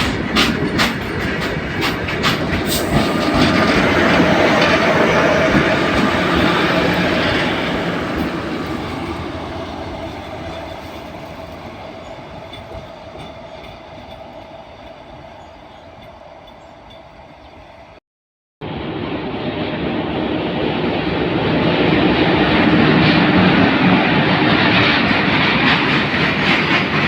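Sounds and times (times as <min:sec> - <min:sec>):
train rumble and wheel clatter: 0:00.0 - 0:18.0, 0:18.6 - 0:27.0.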